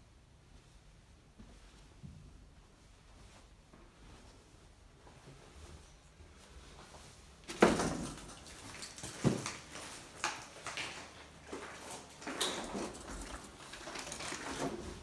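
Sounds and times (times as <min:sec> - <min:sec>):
footsteps on tiled floor: 0:00.5 - 0:15.0.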